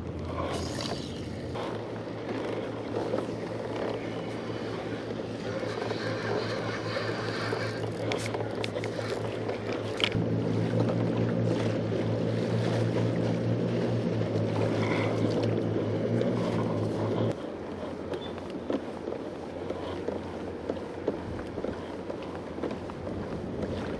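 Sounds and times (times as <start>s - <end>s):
boat engine hum: 0.0s - 23.9s.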